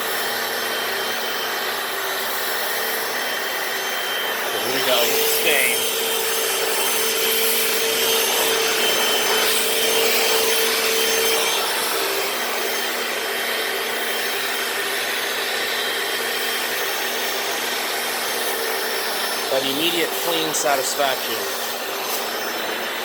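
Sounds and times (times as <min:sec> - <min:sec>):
floor cleaner motor whirring: 0:00.0 - 0:23.0.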